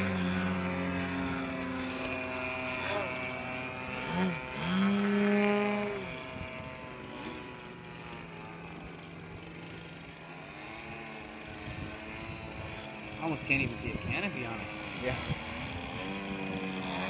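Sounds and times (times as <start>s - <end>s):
model plane engine droning: 0.0s - 17.0s.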